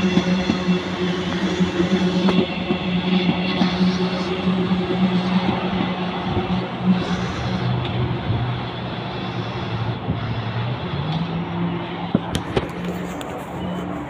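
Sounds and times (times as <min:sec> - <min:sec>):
large vehicle engine hum: 0:00.0 - 0:14.0.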